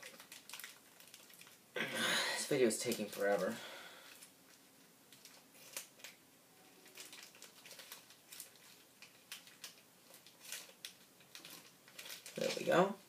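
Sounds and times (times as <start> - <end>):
packaging clicks and rustles: 0.0 - 1.6, 2.8 - 12.9.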